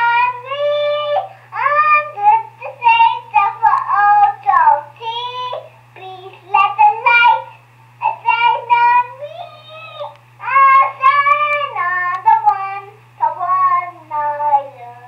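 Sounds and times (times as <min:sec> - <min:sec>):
girl singing through baby monitor: 0:00.0 - 0:15.0
steady low hum: 0:00.0 - 0:15.0.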